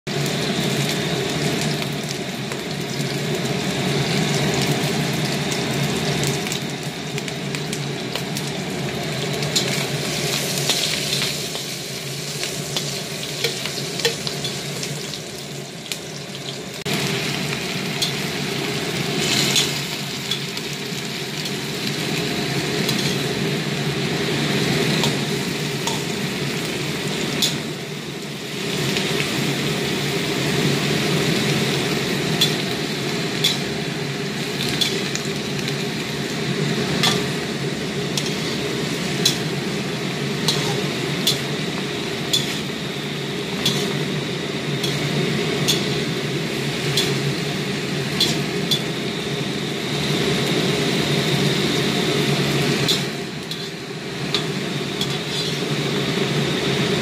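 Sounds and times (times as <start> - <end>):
food sizzling in hot oil: 0.1 - 57.0.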